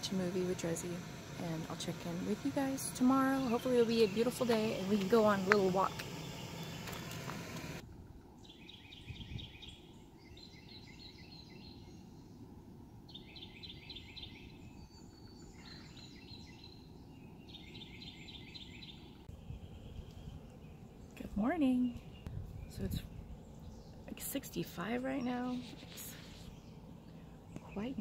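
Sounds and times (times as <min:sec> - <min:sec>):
faint outdoor background: 0:00.0 - 0:28.0
songbird singing: 0:00.0 - 0:28.0.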